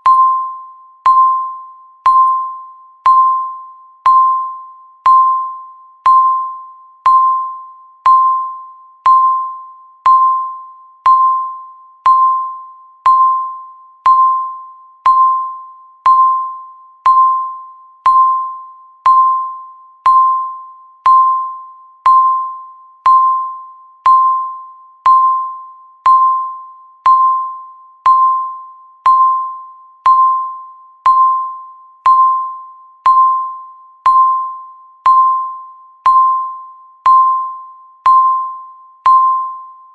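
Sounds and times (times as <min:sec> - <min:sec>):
countdown timer beep: 0:00.0 - 0:39.9.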